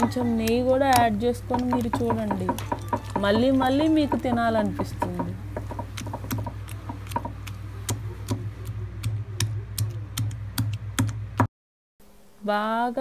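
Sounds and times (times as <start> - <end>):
pestle pounding in stone mortar: 0.0 - 11.5.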